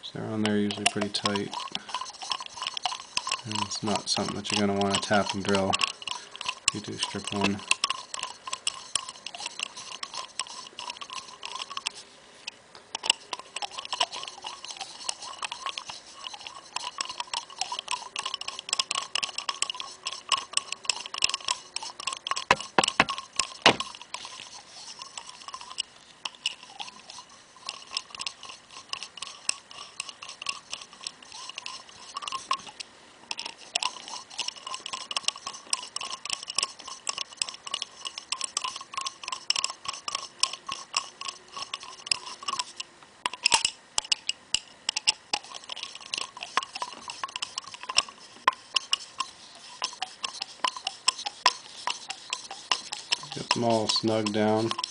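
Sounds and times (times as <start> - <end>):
hand ratchet clicking: 0.4 - 12.0, 12.9 - 54.9.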